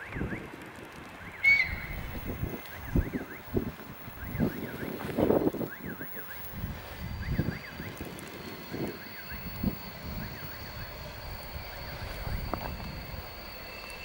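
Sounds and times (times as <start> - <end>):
electric train whining: 0.0 - 14.0
wind buffeting microphone: 0.0 - 14.0.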